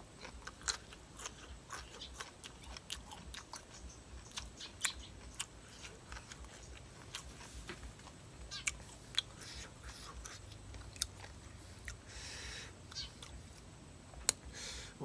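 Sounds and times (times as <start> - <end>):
sharp chewing clicks: 0.0 - 12.2, 12.8 - 14.5.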